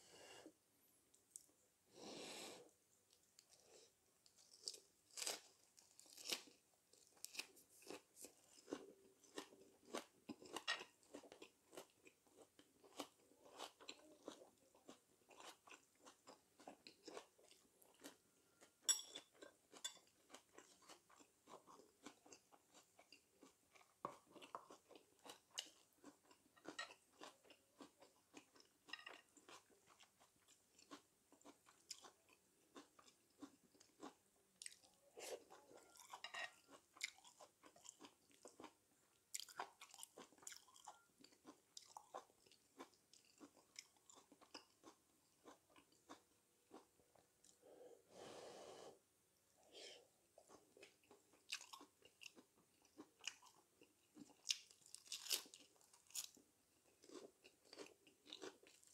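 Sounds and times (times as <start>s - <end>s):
chewing and crunching lettuce: 3.1s - 47.6s, 50.4s - 58.9s.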